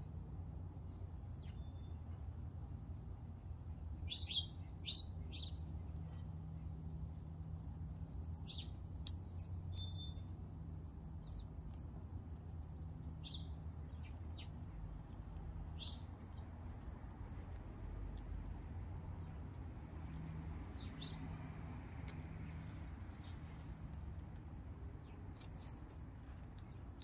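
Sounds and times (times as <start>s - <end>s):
low background hum: 0.0s - 27.0s
small birds chirping: 0.0s - 27.0s.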